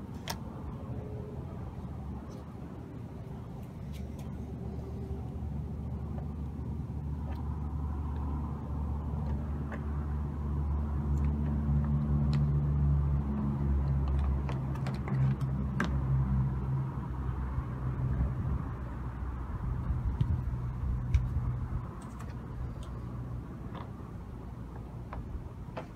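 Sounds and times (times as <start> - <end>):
vehicle engine humming: 0.0 - 25.9.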